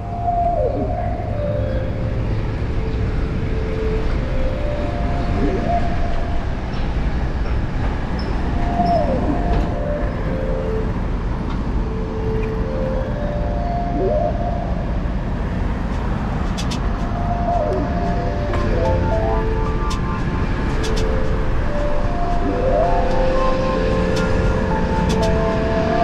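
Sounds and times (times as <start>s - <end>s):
city street traffic rumble: 0.0s - 26.0s
faint music with sliding notes: 0.0s - 26.0s.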